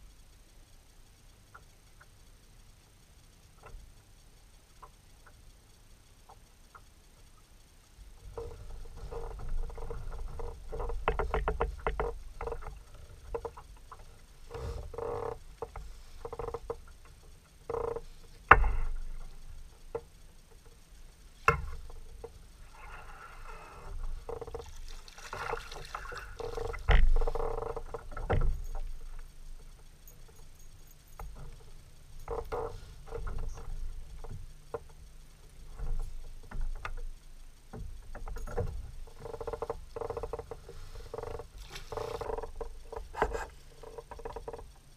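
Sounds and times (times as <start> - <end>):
fishing reel clicking: 0.1 - 44.9.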